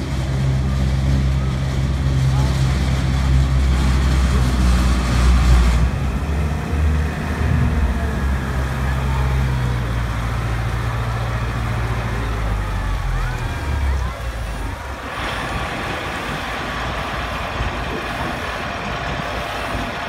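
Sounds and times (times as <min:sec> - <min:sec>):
bus engine running under load: 0:00.0 - 0:20.0
water churning and rushing: 0:00.0 - 0:20.0.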